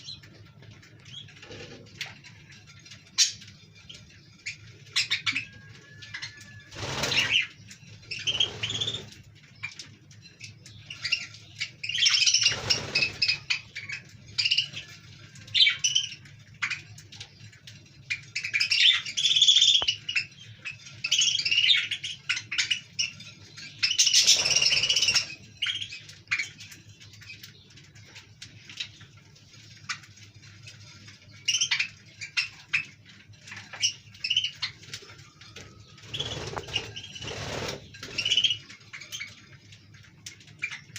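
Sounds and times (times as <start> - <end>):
budgerigars chirping: 1.0 - 29.1, 31.1 - 39.9, 40.5 - 40.9.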